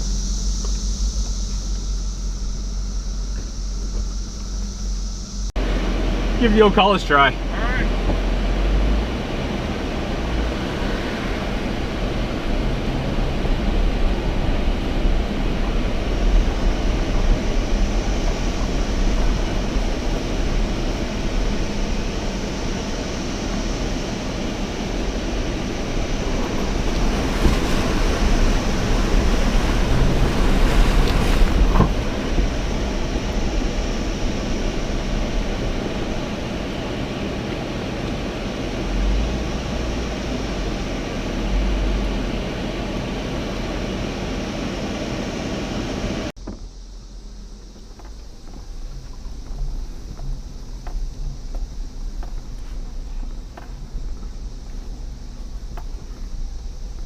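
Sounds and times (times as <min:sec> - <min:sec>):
off-road vehicle engine under load: 0:00.0 - 0:57.0.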